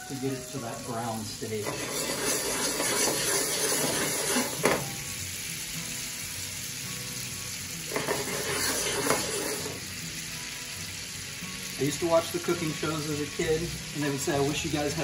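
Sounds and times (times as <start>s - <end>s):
butter sizzling and bubbling: 0.0s - 15.0s.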